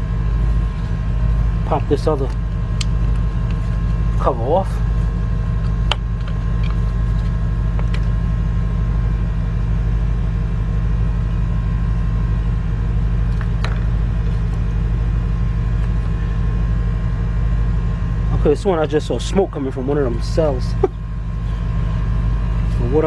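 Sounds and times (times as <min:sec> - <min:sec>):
engine idling drone: 0:00.0 - 0:23.0.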